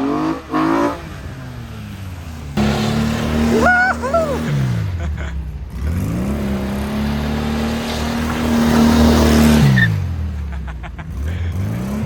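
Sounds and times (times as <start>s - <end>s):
sports car engine revving: 0.0s - 12.0s.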